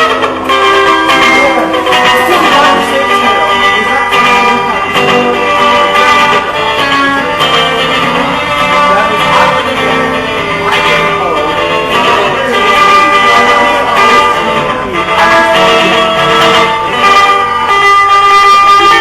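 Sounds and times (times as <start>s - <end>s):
solo guitar playing: 0.0s - 19.0s.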